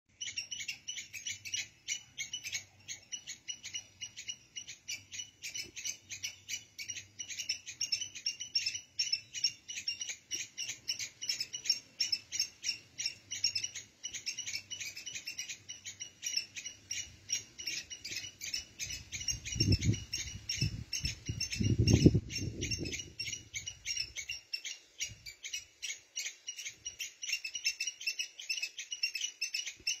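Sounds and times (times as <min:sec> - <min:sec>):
squirrel squeaking: 0:00.1 - 0:30.0.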